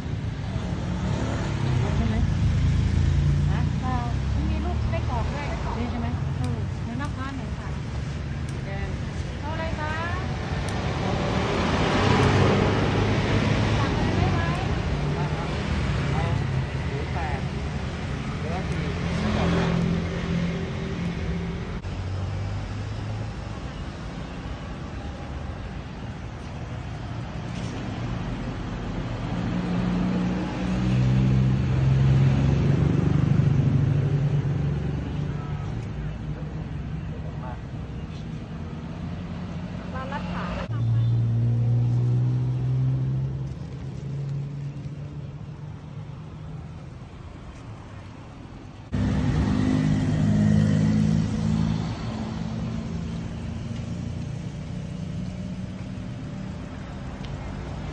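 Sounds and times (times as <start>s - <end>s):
road traffic: 0.0s - 57.9s
vehicle engine humming: 0.0s - 57.9s.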